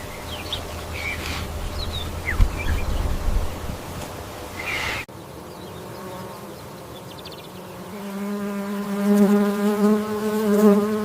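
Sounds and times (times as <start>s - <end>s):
flying insect buzzing: 0.0s - 11.0s.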